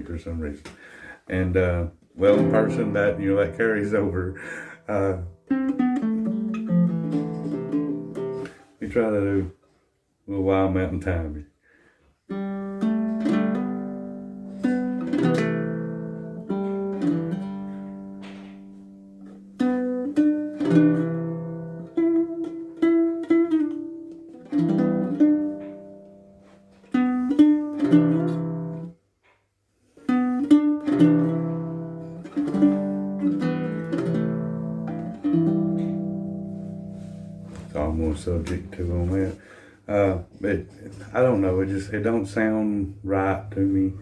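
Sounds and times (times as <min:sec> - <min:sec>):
baritone ukulele chords: 0:01.6 - 0:09.5, 0:12.3 - 0:29.0, 0:30.0 - 0:44.0.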